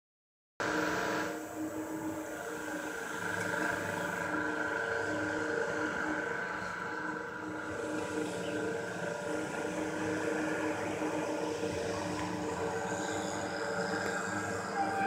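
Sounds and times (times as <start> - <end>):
engine running steadily: 0.6 - 15.0.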